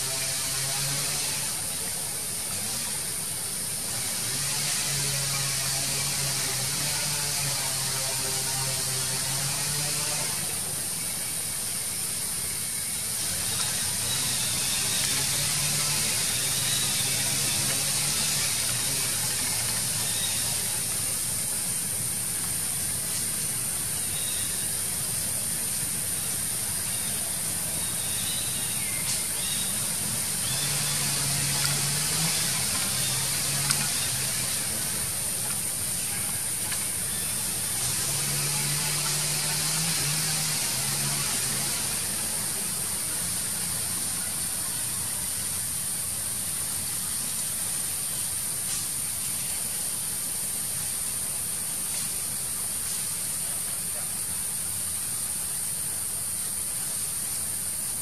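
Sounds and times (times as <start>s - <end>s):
high outdoor hiss: 0.0s - 58.0s.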